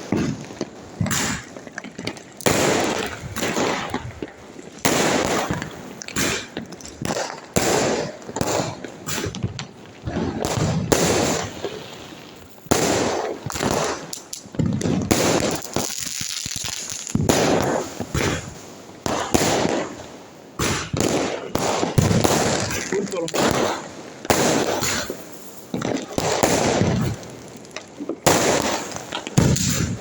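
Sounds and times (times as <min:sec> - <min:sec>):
firecrackers banging with echo: 0:00.0 - 0:30.0.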